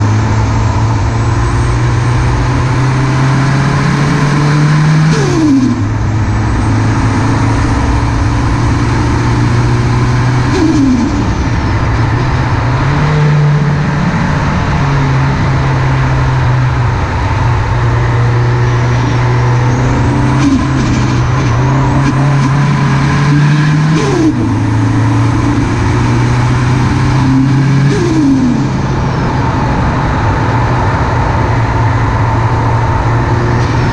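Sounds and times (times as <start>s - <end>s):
turbo engine running under boost: 0.0s - 33.9s.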